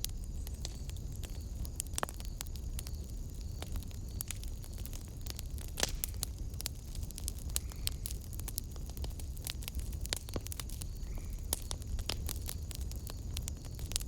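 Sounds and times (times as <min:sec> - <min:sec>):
flames rumbling: 0:00.0 - 0:14.0
wood fire crackling: 0:00.0 - 0:14.0.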